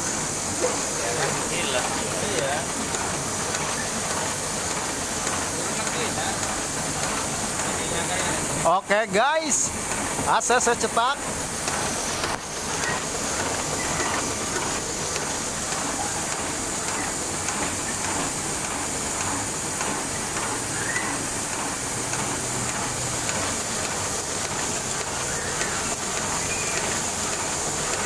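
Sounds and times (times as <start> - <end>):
printing press running: 0.0 - 28.0.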